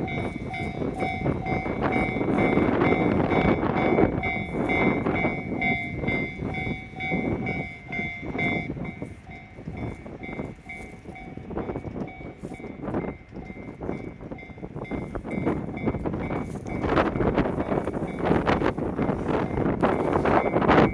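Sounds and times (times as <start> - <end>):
level crossing warning bell: 0.0 - 20.9.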